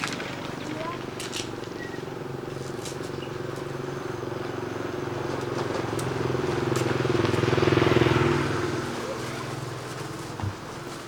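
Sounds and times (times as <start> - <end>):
motorbike engine running: 0.0 - 11.0.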